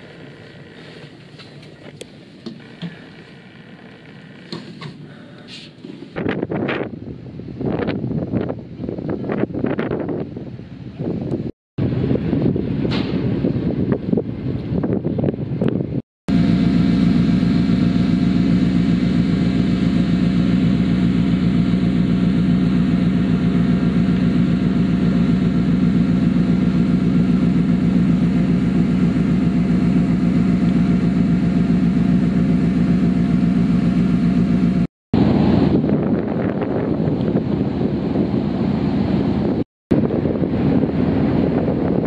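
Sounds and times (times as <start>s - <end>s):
ferry engine droning: 0.0s - 42.0s.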